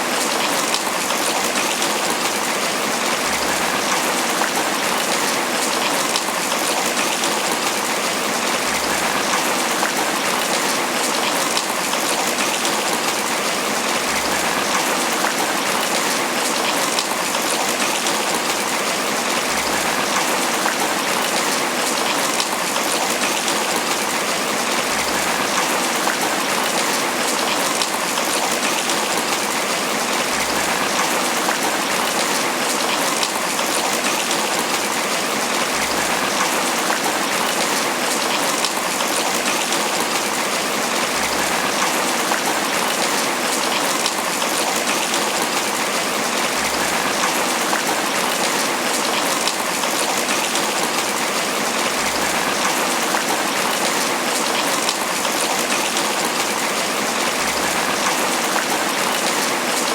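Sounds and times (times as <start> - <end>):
rain pattering on leaves: 0.0 - 59.9.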